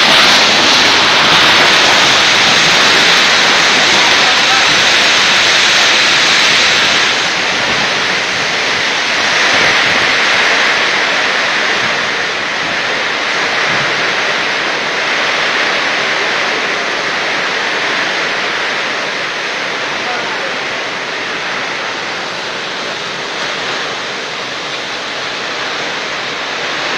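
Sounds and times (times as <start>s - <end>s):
strong wind rushing: 0.0s - 26.9s.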